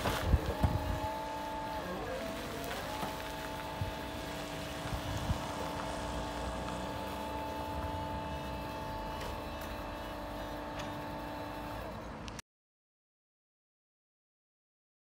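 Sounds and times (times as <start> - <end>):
electric forklift motor whine: 0.0 - 12.4.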